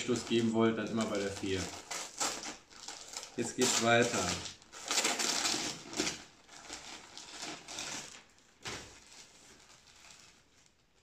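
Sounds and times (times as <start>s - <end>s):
wrapping paper rustling and crinkling: 0.0s - 11.0s.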